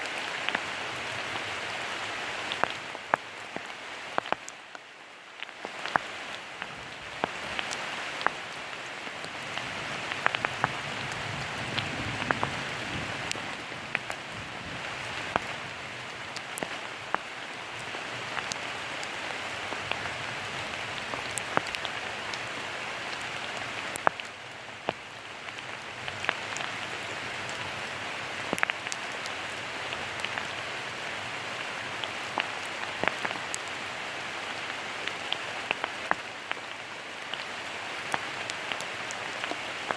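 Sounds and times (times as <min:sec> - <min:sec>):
raindrops ticking close by: 0:00.0 - 0:39.9
steady rain falling: 0:00.0 - 0:39.9.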